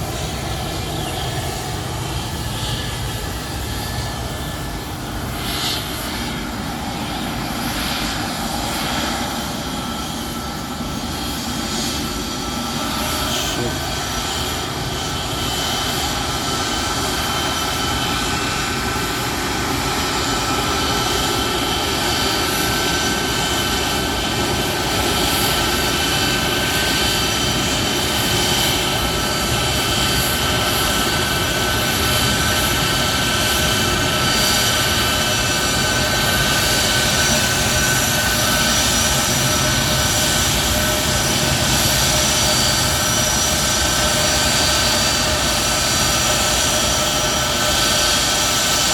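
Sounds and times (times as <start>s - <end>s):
jet engines running: 0.0s - 48.9s.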